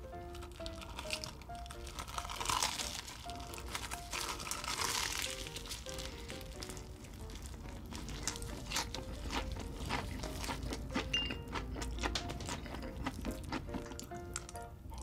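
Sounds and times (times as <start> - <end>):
crunchy chewing of fried chicken: 0.0 - 15.0
soft background music: 0.0 - 15.0.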